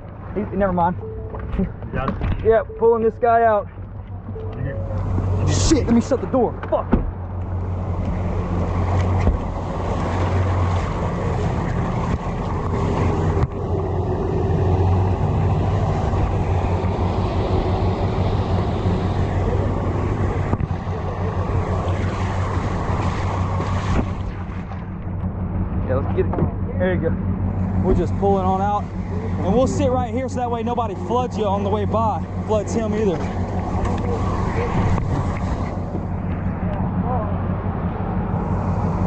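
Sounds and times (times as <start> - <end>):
tow vehicle engine humming: 0.0 - 39.0
water washing: 3.7 - 39.0.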